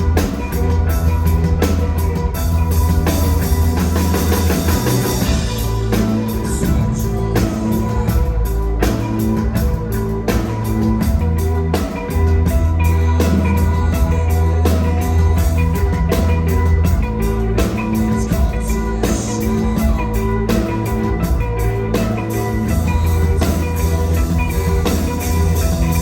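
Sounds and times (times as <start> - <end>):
bass line: 0.0 - 26.0
drum kit beat: 0.0 - 26.0
guitar: 0.0 - 26.0.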